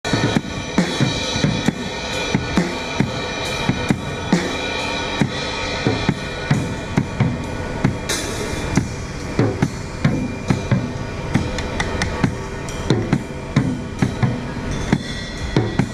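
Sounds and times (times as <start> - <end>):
cymbal crash: 0.0 - 15.9
ringing cymbals: 0.0 - 15.9.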